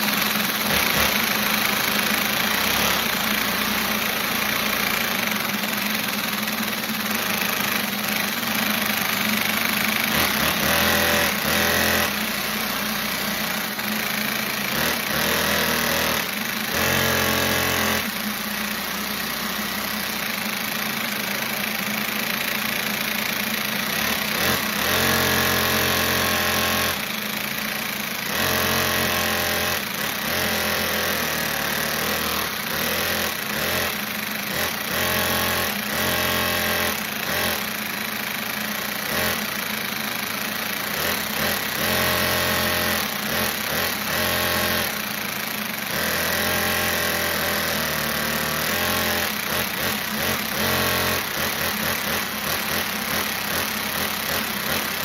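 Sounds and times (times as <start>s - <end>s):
engine revving and idling: 0.0s - 55.0s.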